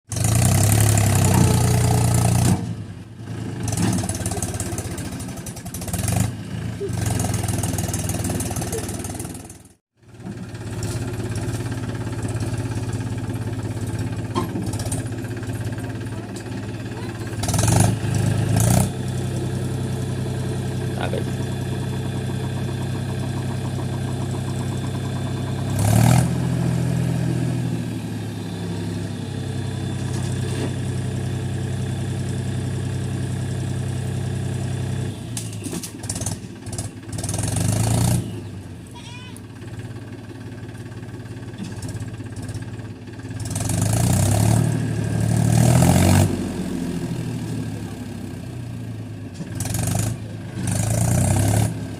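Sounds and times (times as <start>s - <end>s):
tractor diesel engine running: 0.1s - 51.9s.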